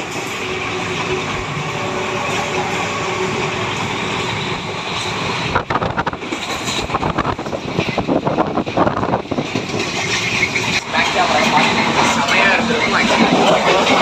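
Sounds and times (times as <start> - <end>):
train running rush: 0.0 - 14.0.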